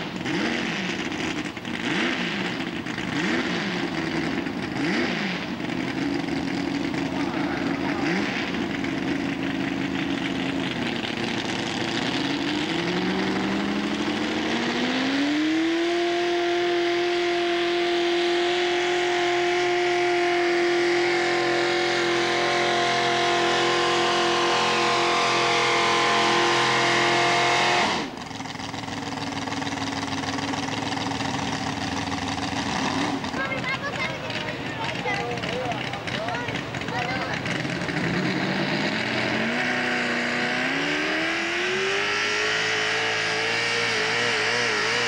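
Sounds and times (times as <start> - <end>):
tractor engine at full throttle: 0.0 - 45.0.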